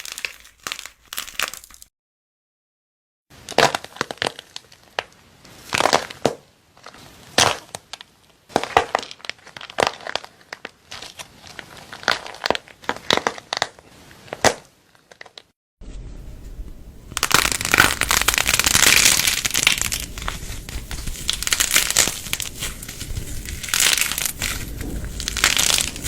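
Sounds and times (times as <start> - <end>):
crisp material crackling and crunching: 0.0 - 1.9, 3.4 - 15.5, 17.1 - 26.0.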